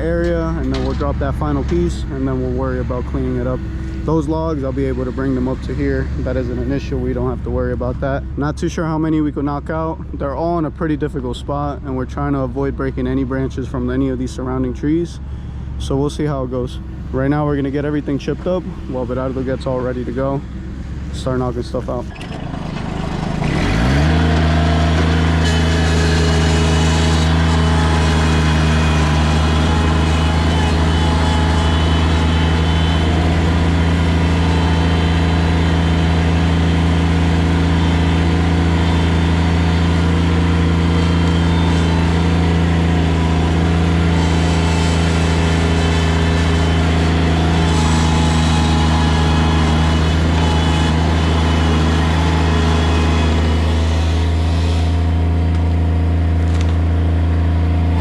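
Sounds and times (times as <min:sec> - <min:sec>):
wood chipper engine running: 0:00.0 - 0:58.0.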